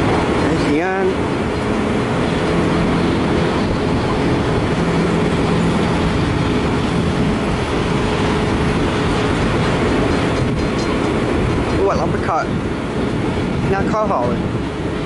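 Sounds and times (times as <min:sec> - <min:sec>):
steady humming tone: 0:00.0 - 0:15.0.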